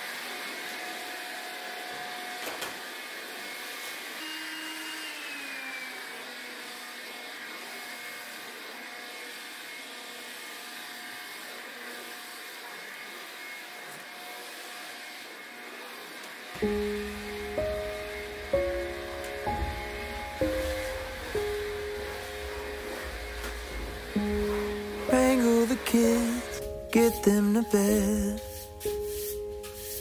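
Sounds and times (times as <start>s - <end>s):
stick vacuum cleaner running: 0.0s - 27.7s.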